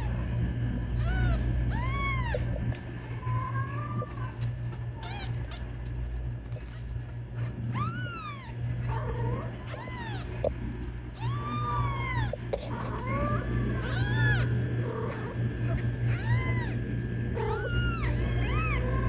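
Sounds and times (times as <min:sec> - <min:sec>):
steady low hum: 0:00.0 - 0:19.0
kittens meowing: 0:01.0 - 0:10.6, 0:11.2 - 0:19.0.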